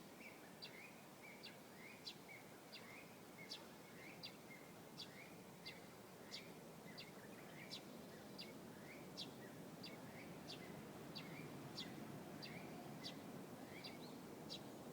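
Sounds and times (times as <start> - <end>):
small songbird chirping: 0.2 - 14.8.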